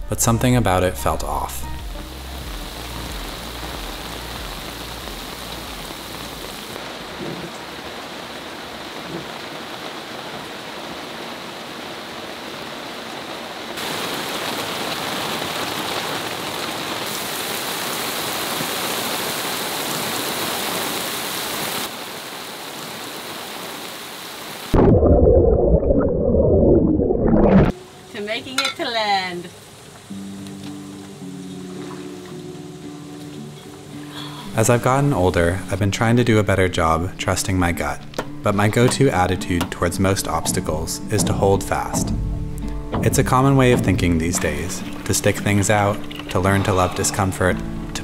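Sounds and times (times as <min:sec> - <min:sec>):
heavy rain on water and deck: 0:01.6 - 0:24.8, 0:27.7 - 0:48.0.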